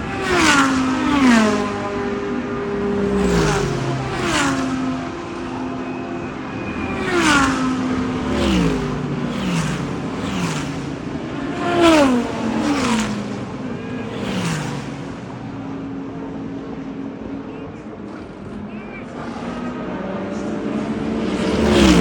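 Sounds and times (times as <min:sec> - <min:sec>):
engine drone: 0:00.0 - 0:22.0
race cars passing: 0:00.0 - 0:22.0.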